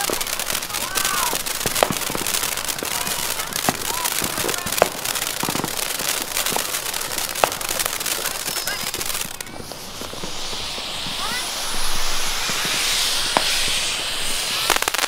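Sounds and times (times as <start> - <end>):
firework hissing crackle: 0.0 - 15.0
firework sharp pops: 0.0 - 15.0.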